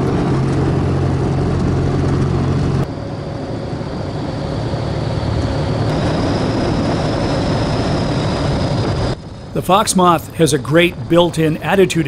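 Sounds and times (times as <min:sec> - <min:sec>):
propeller plane engine droning: 0:00.0 - 0:12.0
wind rushing: 0:00.0 - 0:12.0.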